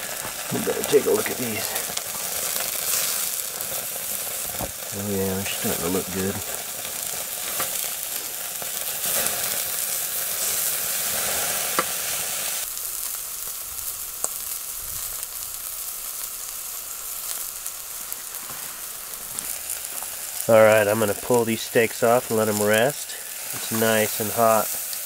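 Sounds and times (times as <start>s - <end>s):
steaks sizzling in a hot pan: 0.0s - 25.0s.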